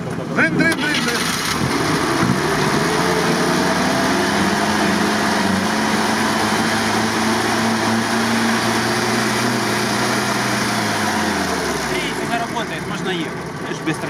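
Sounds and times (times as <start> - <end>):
jeep engine idling: 0.4 - 14.0.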